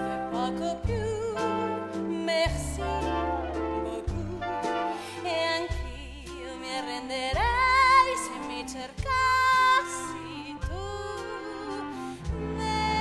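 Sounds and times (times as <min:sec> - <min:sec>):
orchestral accompaniment: 0:00.0 - 0:08.6, 0:09.2 - 0:13.0.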